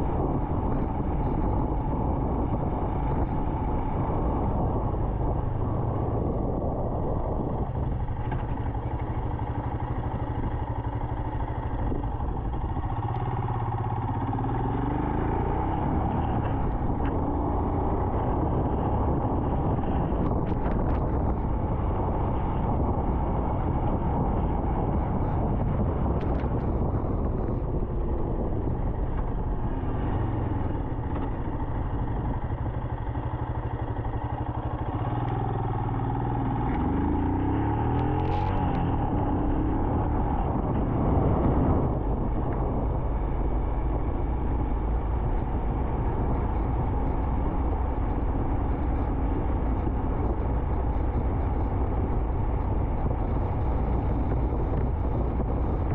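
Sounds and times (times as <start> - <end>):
motorcycle engine running: 0.0 - 55.9
wind: 0.0 - 55.9.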